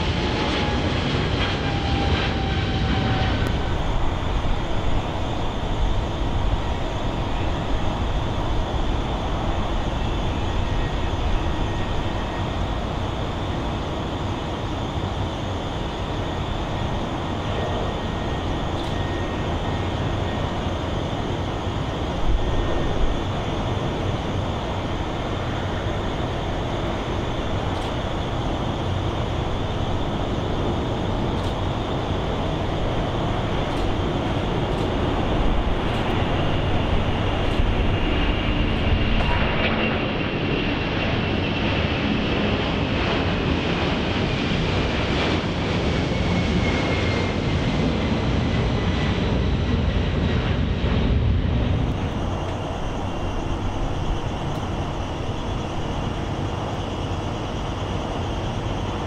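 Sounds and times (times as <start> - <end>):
jet engine whine falling: 0.0 - 59.0
jet engines at takeoff power: 0.0 - 59.0.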